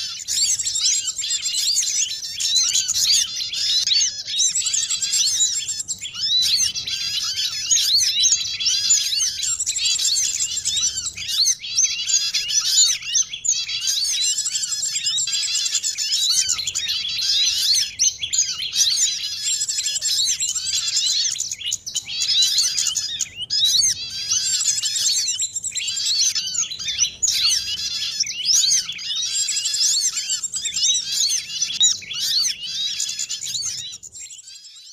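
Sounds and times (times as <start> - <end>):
songbirds chirping and twittering: 0.0 - 34.9.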